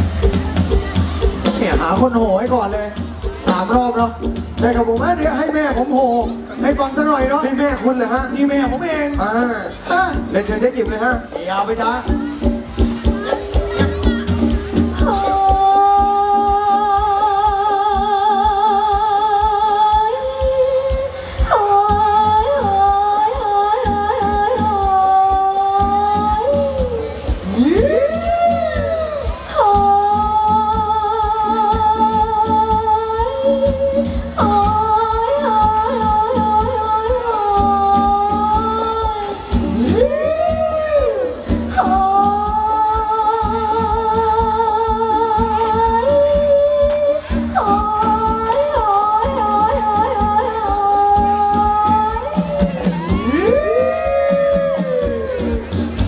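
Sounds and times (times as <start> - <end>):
band lead melody with sliding notes: 0.0 - 56.0
steady percussion beat: 0.0 - 56.0.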